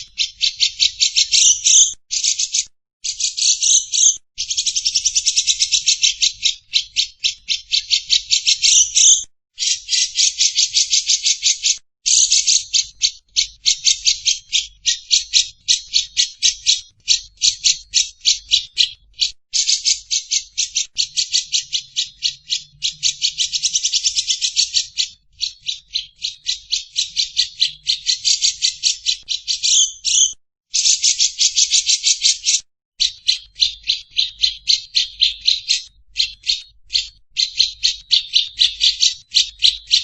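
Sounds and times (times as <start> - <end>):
bird chattering: 0.0 - 40.0.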